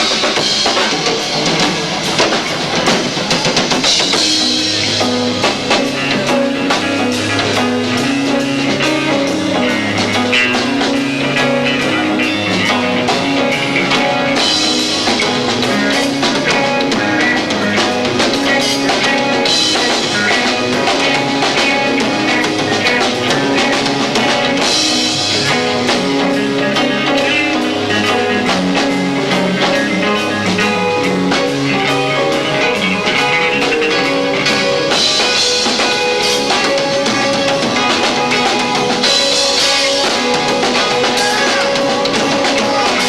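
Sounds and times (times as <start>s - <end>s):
cymbal washes: 0.0s - 43.0s
live rock band instrumental: 0.0s - 43.0s.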